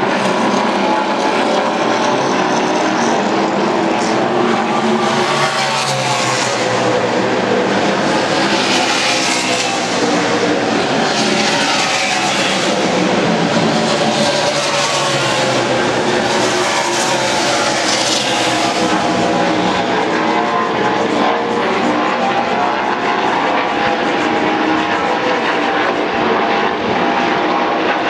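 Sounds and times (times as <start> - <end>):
race car engines passing: 0.0 - 28.0.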